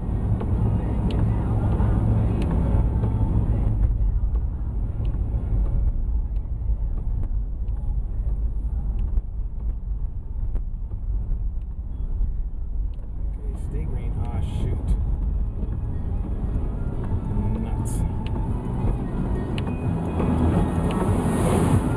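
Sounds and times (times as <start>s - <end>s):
car tyres and engine rumble: 0.0s - 21.9s.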